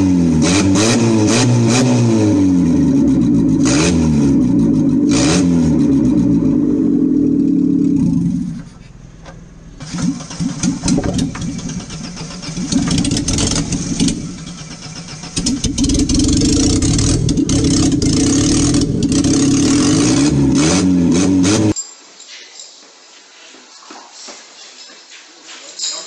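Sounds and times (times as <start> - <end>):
car engine revving: 0.0 - 21.8.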